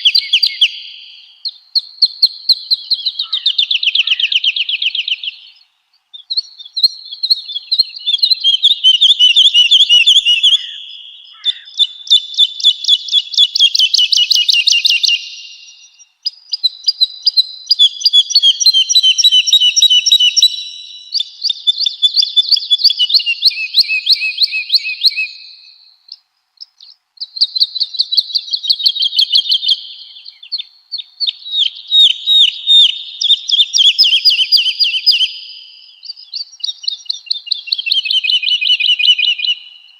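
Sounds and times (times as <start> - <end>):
woodlark singing: 0.0 - 39.9.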